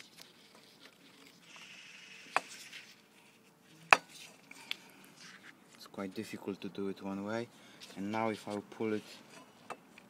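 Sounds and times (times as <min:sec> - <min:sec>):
light rubbing and scraping: 0:00.0 - 0:06.5, 0:07.7 - 0:09.8.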